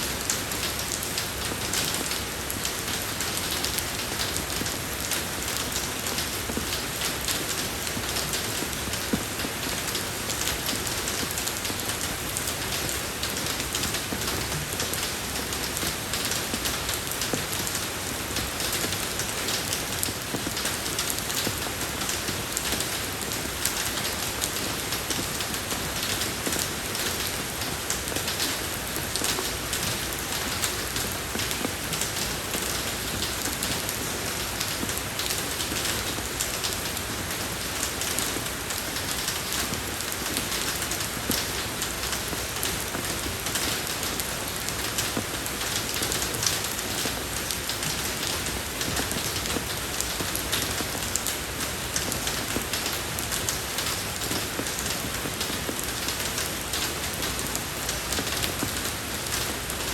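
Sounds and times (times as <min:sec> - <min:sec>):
rain falling on road: 0:00.0 - 0:59.9.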